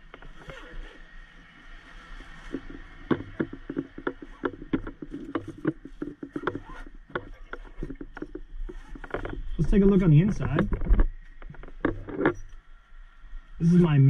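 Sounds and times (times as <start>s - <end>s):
nylon bag rustling: 0.0s - 12.5s
gear knocking and clunking: 0.0s - 12.6s.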